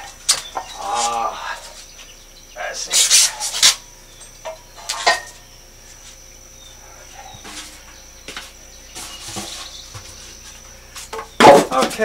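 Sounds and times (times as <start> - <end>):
light bumps: 0.0 - 12.0.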